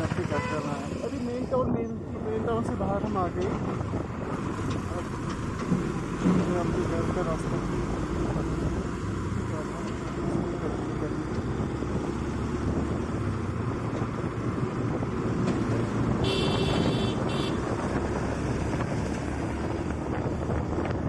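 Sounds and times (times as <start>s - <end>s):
motorcycle riding: 0.0s - 21.0s
wind buffeting microphone: 1.3s - 21.0s.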